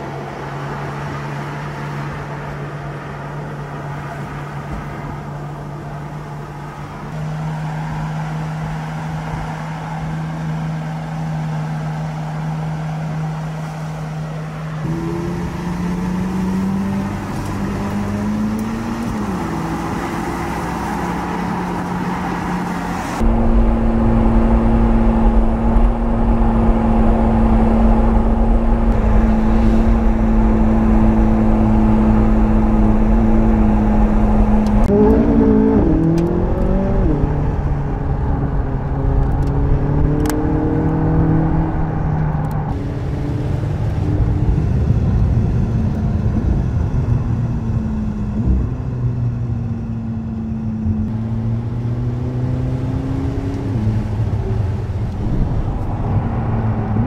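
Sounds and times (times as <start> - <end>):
sports car engine revving: 6.5 - 57.0.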